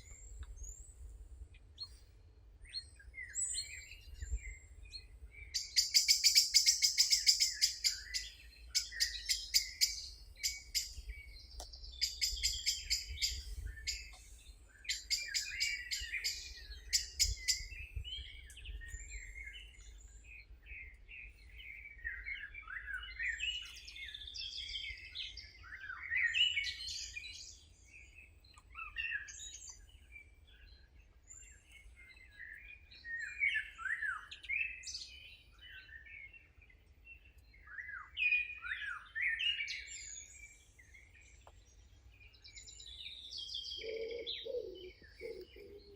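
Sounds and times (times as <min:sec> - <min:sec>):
songbirds chirping and singing: 0:00.0 - 0:45.9.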